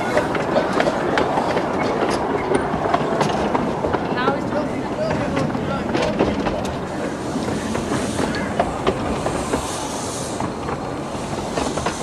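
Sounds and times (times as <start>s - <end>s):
miniature train rumbling: 0.0s - 12.0s
wheels clicking on rail joints: 0.0s - 12.0s.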